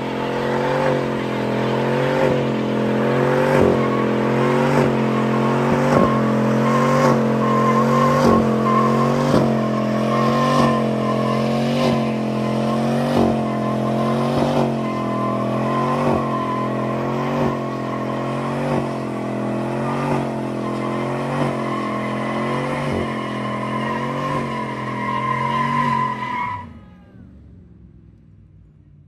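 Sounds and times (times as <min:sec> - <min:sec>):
truck engine at high revs: 0:00.0 - 0:28.2
tyres squealing: 0:00.1 - 0:26.9.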